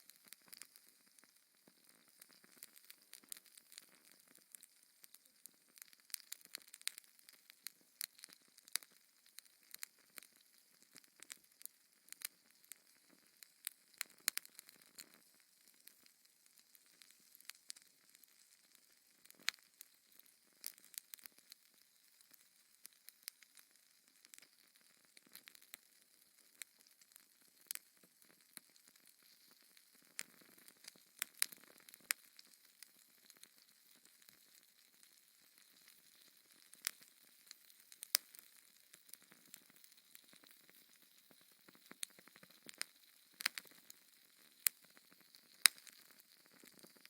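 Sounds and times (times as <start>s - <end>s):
faint steady hiss: 0.0s - 47.0s
wood fire crackling and popping: 0.0s - 47.0s.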